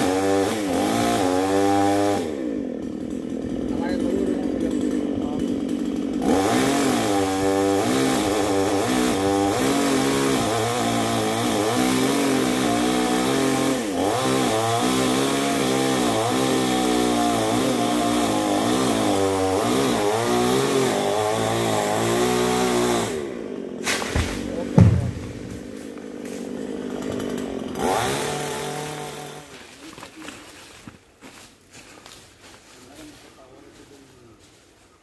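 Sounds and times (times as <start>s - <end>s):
chainsaw cutting wood: 0.0s - 32.6s.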